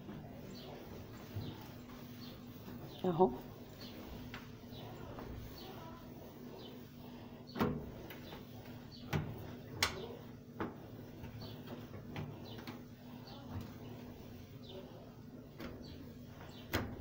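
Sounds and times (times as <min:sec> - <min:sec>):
cloth wiping a metal stovetop: 0:00.3 - 0:15.4.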